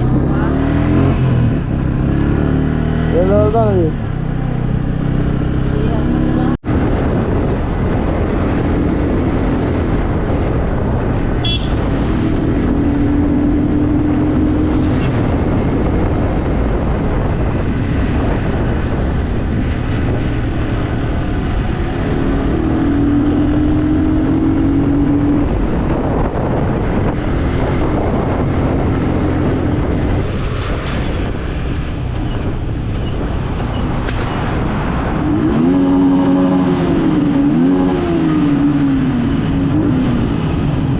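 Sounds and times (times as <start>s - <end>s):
heavy rushing noise: 0.0s - 40.9s.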